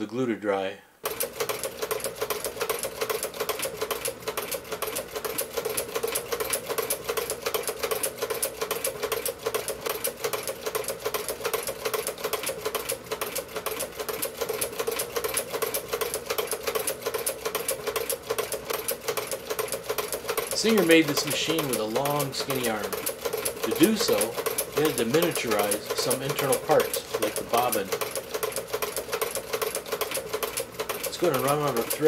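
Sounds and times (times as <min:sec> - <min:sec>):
sewing machine clicking: 0:01.0 - 0:32.0.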